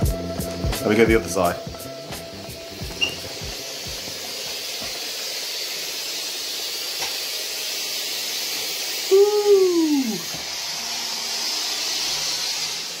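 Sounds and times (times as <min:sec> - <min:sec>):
steam mop hissing: 0:00.0 - 0:13.0.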